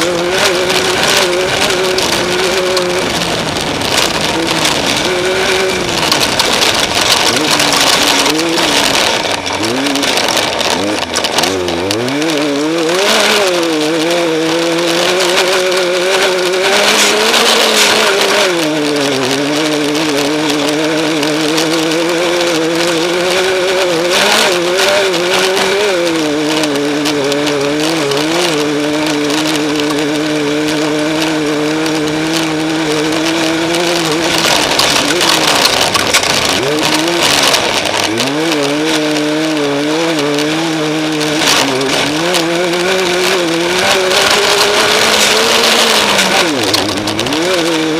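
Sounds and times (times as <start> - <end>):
race vehicle engine running hard: 0.0 - 47.9
steady rushing noise: 0.0 - 47.9.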